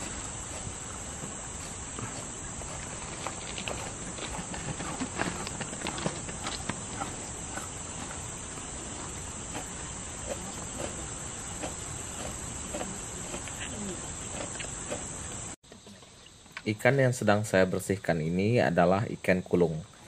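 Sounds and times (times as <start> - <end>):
high-pitched insect drone: 0.0 - 19.9.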